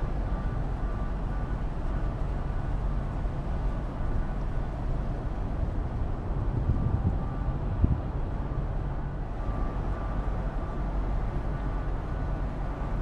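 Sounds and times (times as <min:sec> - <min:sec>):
ferry engine and hull drone: 0:00.0 - 0:13.0.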